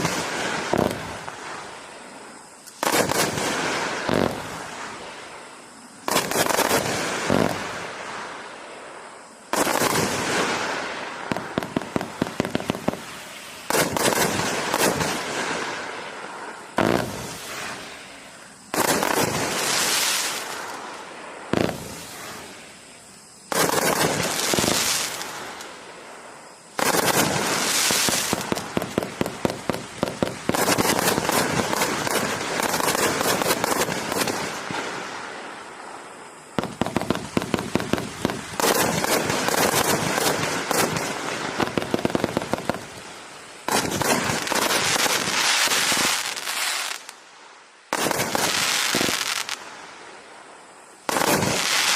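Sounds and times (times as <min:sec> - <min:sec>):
fireworks launching and bursting: 0:00.0 - 0:51.9
trailing firework hiss: 0:00.0 - 0:51.9.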